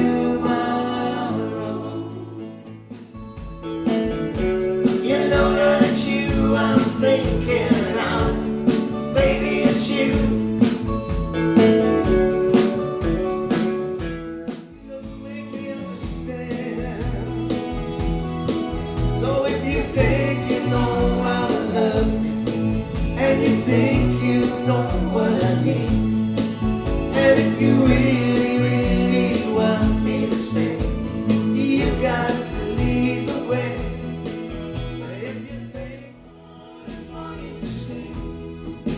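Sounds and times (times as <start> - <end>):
live band music with singing: 0.0 - 38.9.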